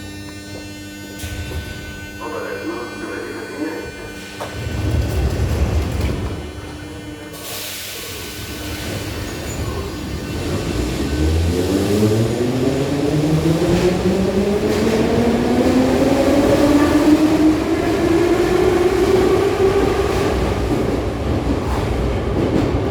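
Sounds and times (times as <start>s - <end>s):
subway train motor whine: 0.0s - 22.9s
train cars rumbling: 0.7s - 22.9s.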